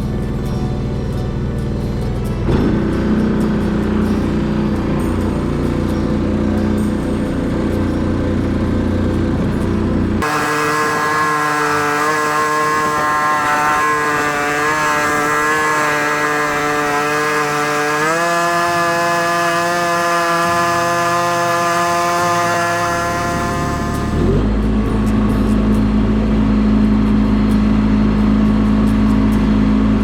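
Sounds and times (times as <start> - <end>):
chainsaw running at high revs: 0.0 - 24.6
low engine rumble: 0.0 - 30.0.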